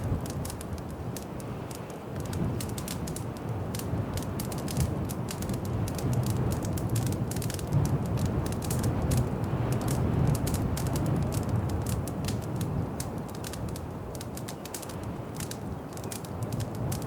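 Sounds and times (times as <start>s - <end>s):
rumble of burning flames: 0.0s - 17.0s
wood fire popping and snapping: 0.0s - 17.0s.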